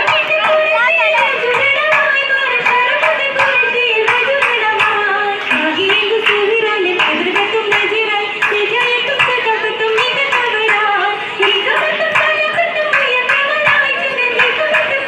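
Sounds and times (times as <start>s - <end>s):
rhythmic hand claps: 0.0s - 15.0s.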